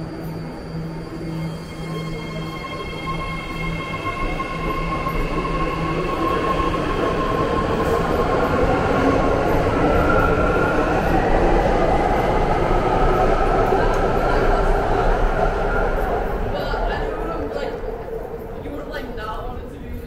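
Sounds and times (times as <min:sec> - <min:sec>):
higher whine: 0:00.0 - 0:19.4
electric train whine: 0:00.0 - 0:20.0
rail rumble: 0:00.0 - 0:20.0.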